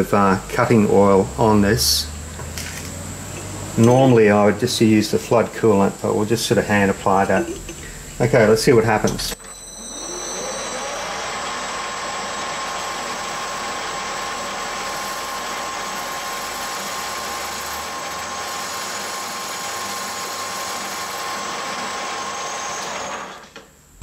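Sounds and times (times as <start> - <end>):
lathe motor whine: 0.0 - 23.6.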